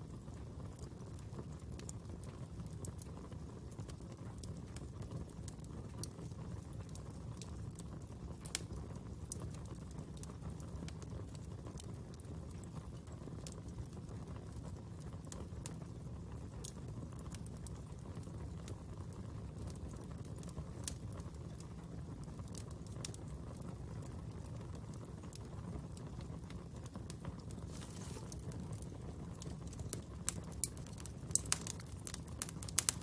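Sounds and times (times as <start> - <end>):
fire crackling and popping: 0.0 - 33.0.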